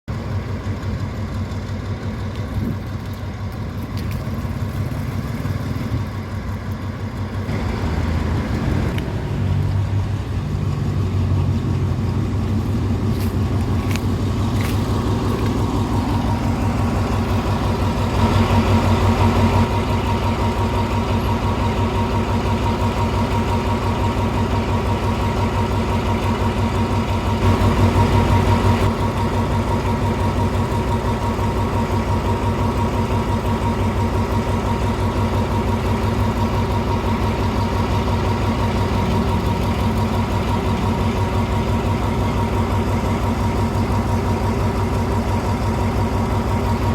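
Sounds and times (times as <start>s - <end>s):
locomotive diesel engine running: 0.0s - 46.9s.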